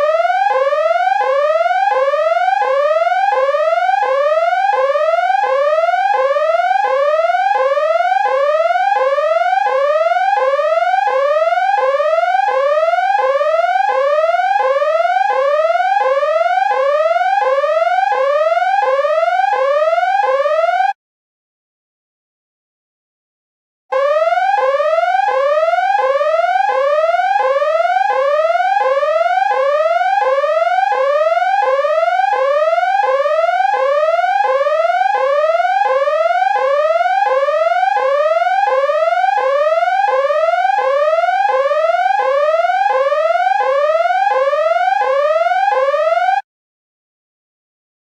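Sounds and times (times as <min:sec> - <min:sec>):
electronic siren whooping: 0:00.0 - 0:20.9, 0:23.9 - 0:46.4.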